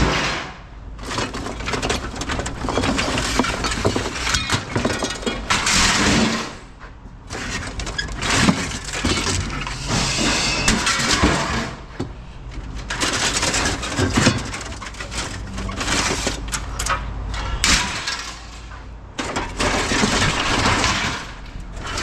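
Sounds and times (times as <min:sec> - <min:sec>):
scrap metal clattering: 0:00.0 - 0:22.0.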